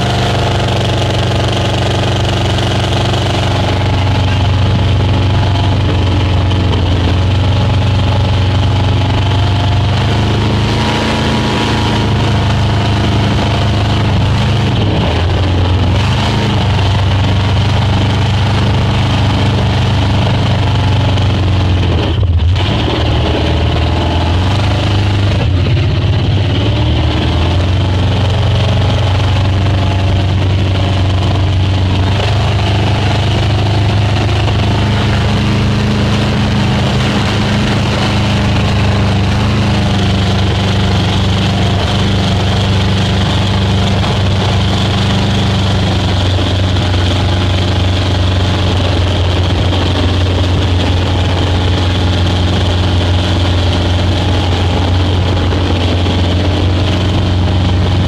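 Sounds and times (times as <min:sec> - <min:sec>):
speedboat engine drone: 0:00.0 - 0:58.0.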